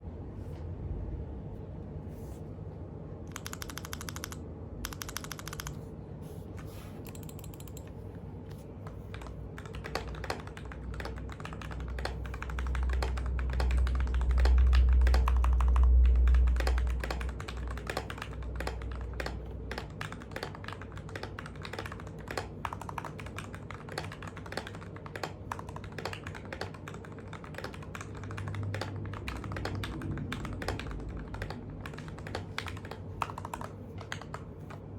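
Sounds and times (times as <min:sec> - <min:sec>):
typing on mechanical keyboard: 0:03.3 - 0:05.8, 0:07.0 - 0:08.0, 0:08.8 - 0:34.9.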